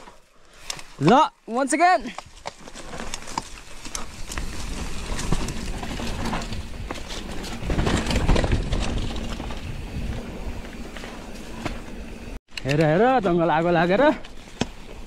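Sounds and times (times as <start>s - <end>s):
mountain bike rattling over dirt: 0.0s - 15.0s.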